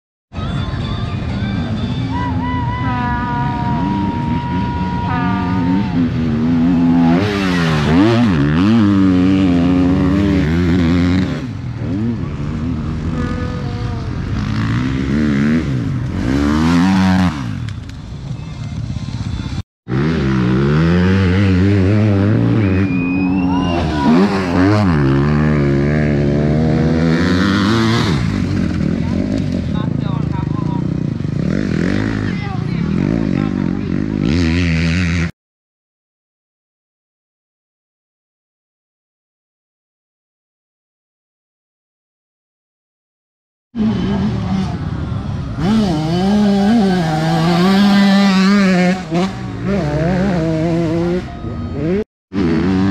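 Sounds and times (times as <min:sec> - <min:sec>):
motorcycles racing past: 0:00.4 - 0:35.3, 0:43.8 - 0:52.9.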